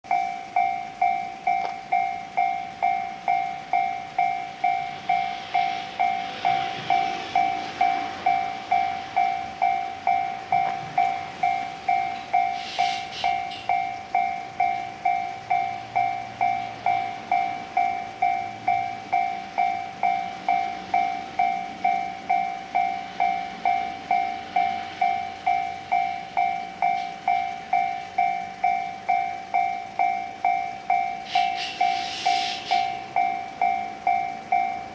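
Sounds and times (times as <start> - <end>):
level-crossing warning bell ringing: 0.0 - 34.9.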